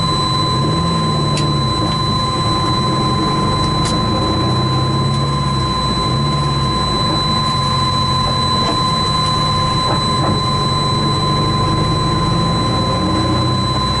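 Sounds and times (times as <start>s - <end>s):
race car engine running: 0.0s - 14.0s
thin steady high tone: 0.0s - 14.0s.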